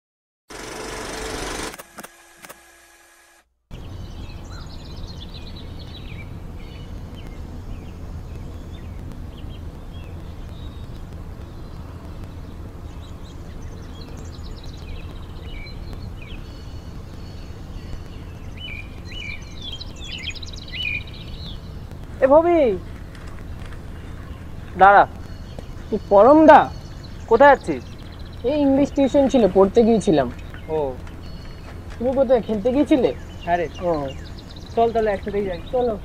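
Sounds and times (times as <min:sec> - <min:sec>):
birds chirping: 0:00.5 - 0:36.0
low outdoor rumble: 0:03.7 - 0:36.0.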